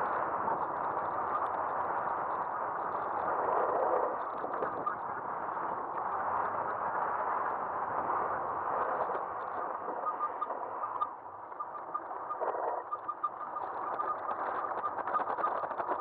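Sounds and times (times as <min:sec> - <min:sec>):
electric bike riding on pavement: 0:00.0 - 0:16.0
faint ticks and rattles: 0:00.0 - 0:16.0
wind noise: 0:00.0 - 0:16.0.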